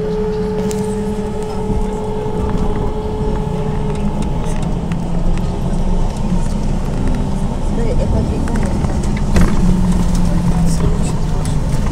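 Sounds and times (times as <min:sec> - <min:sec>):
electric whine: 0:00.0 - 0:11.9
low road rumble: 0:00.0 - 0:11.9.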